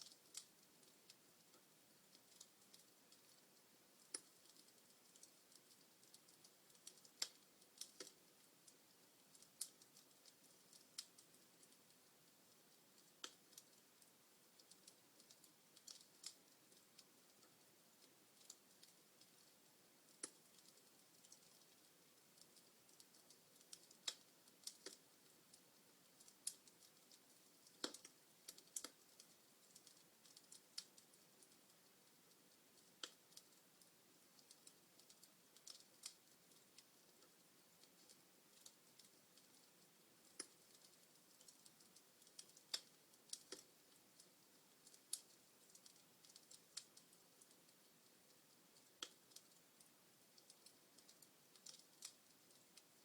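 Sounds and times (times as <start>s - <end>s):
faint hiss: 0.0s - 53.0s
log fire crackling: 0.0s - 53.0s.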